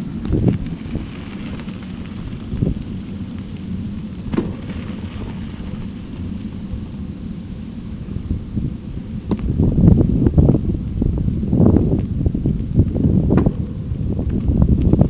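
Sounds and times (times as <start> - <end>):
mountain bike rumble on dirt trail: 0.0 - 15.0.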